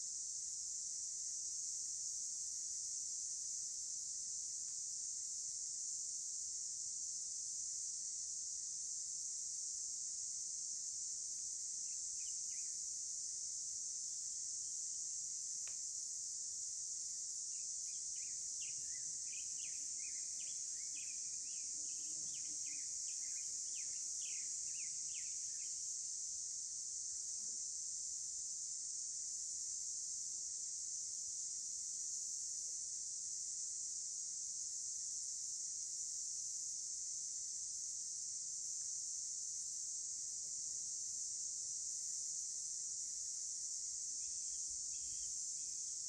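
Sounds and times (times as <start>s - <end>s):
high-pitched insect chorus: 0.1s - 46.0s.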